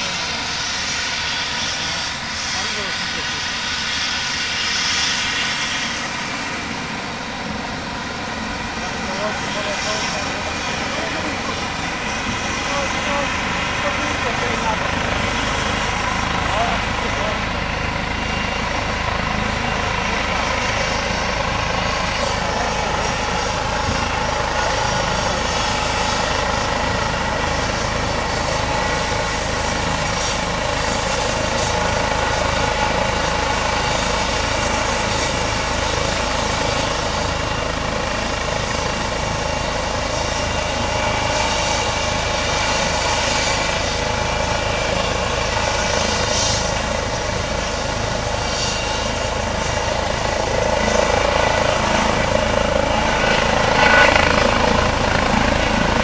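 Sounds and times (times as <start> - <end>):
helicopter rotor noise: 0.0 - 56.0
helicopter turbine whine: 0.0 - 56.0.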